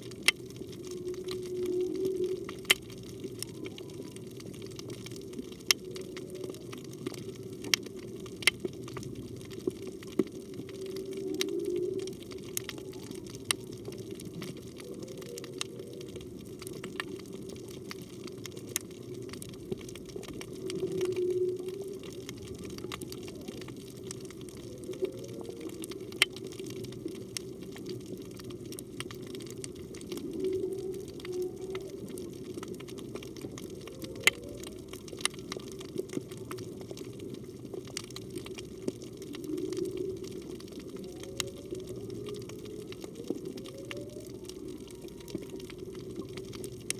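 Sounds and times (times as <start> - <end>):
whale song underwater: 0.0 - 46.9.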